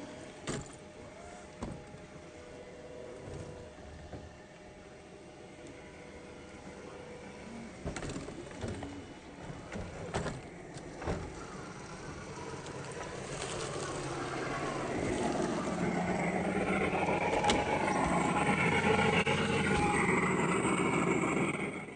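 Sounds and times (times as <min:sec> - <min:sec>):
electric motors and gears whirring: 0:00.0 - 0:21.9.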